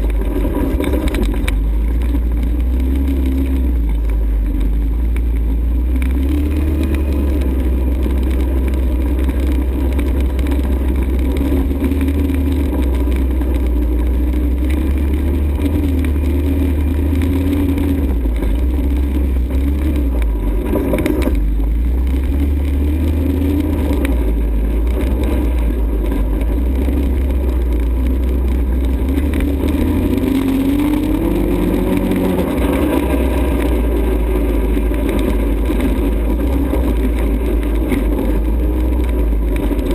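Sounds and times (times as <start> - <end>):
atv engine running: 0.0 - 39.9
heavy low rumble: 0.0 - 39.9.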